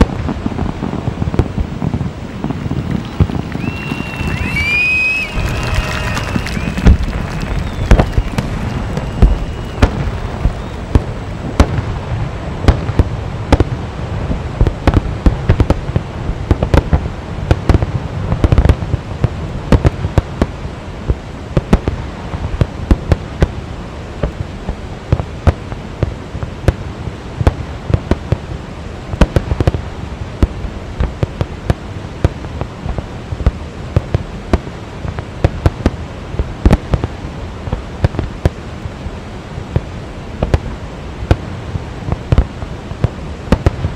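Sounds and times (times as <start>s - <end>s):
fireworks exploding with sharp bangs: 0.0s - 43.9s
steady low background noise: 0.0s - 43.9s.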